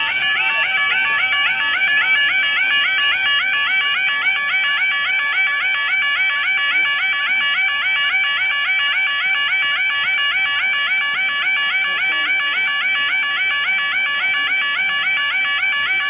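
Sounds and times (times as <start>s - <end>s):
level crossing warning alarm: 0.0s - 16.0s.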